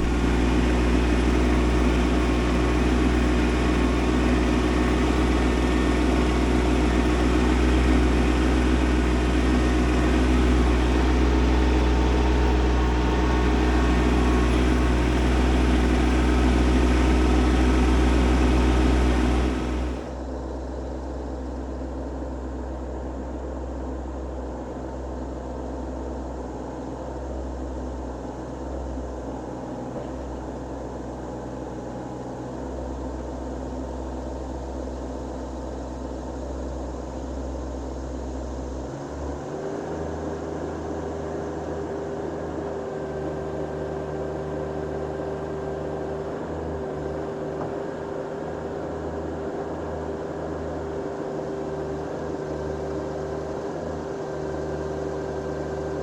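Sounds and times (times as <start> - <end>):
steady higher whine: 0.0 - 56.0
tractor diesel engine running: 0.0 - 56.0.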